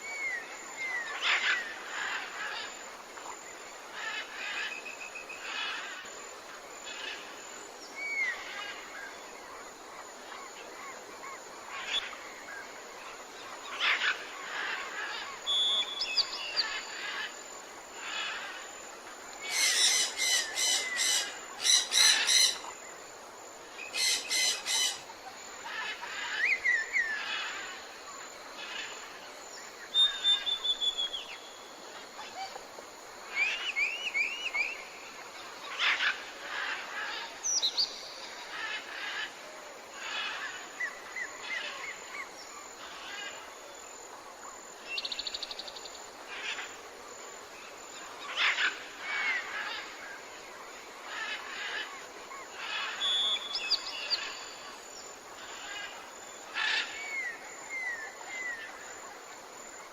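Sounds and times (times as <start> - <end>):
faint steady hiss: 0.0 - 59.9
forest birds calling and chirping: 0.0 - 59.9.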